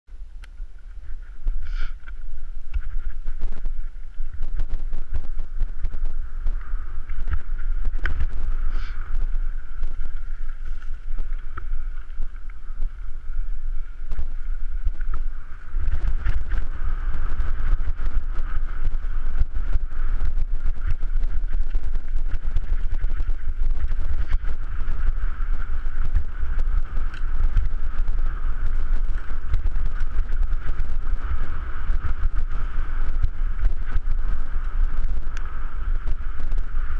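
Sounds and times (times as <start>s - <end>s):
wind buffeting microphone: 0.2s - 36.9s
bike rattling over rough ground: 0.6s - 36.9s.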